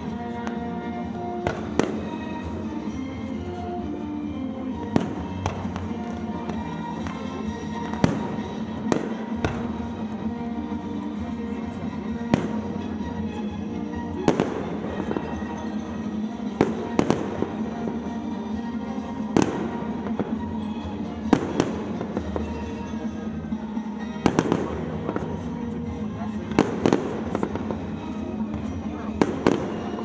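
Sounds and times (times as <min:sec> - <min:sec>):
fireworks bursting: 0:00.0 - 0:03.0, 0:04.8 - 0:13.0, 0:14.0 - 0:30.0
fireworks crackling: 0:00.0 - 0:30.0
music playing: 0:00.0 - 0:30.0.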